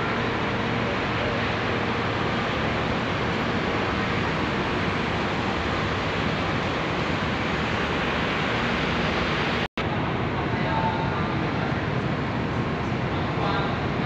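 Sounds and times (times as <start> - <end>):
steady rush of noise: 0.0 - 14.0.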